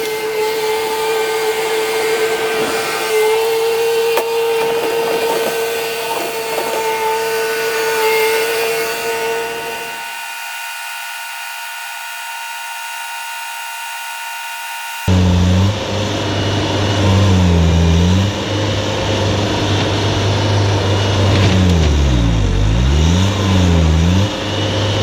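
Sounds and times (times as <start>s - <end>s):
motor whining: 0.0s - 25.0s.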